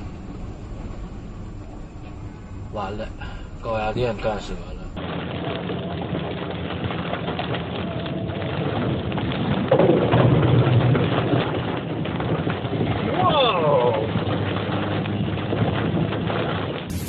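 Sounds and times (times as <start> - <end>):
steady rain with fine ticking: 0.0 - 17.0.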